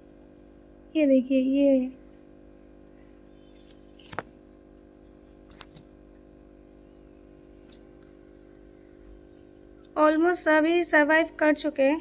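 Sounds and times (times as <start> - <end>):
aquarium air pump humming: 0.0 - 12.0.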